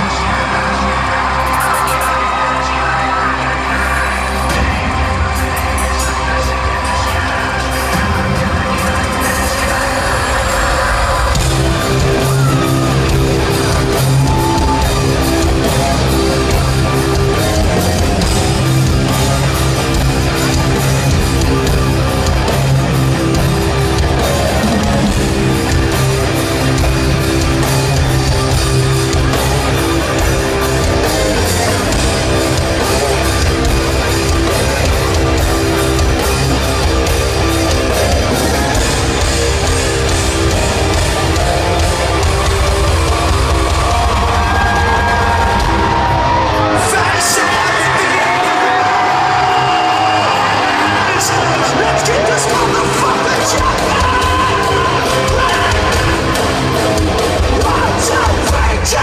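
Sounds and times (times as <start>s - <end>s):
heavy rock music over speakers: 0.0s - 59.0s.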